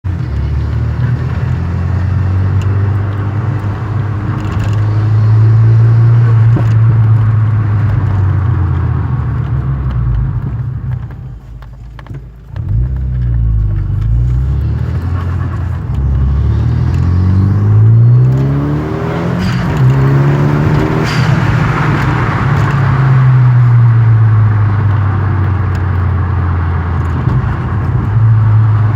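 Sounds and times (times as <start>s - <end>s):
car engine revving: 0.1s - 11.8s, 12.5s - 28.9s.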